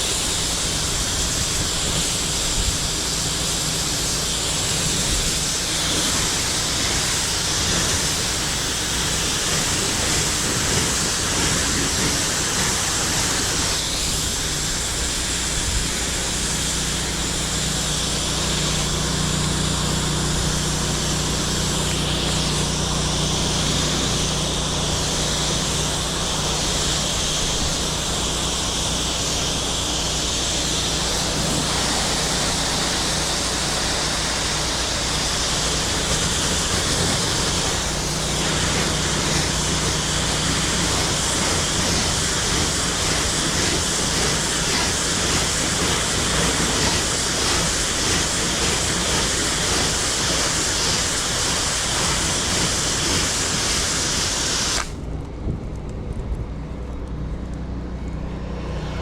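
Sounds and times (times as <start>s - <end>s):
water jet hissing: 0.0s - 55.0s
pressure washer motor hum: 0.0s - 59.0s.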